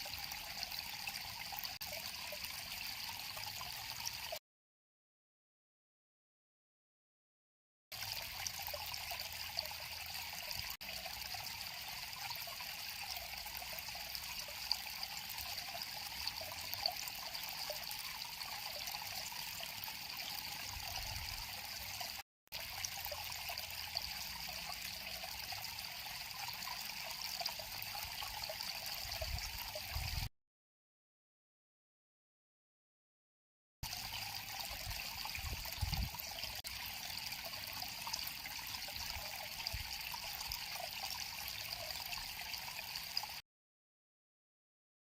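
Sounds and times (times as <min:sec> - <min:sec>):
stream flowing over stones: 0:00.0 - 0:04.4, 0:07.9 - 0:30.3, 0:33.8 - 0:43.4.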